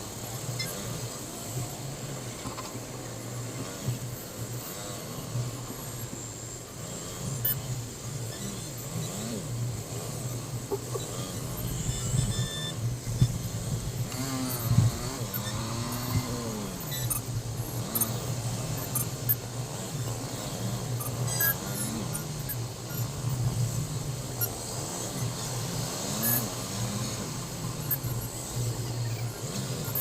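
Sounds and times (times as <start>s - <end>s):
engines revving: 0.0s - 30.0s
road traffic engines droning: 0.0s - 30.0s.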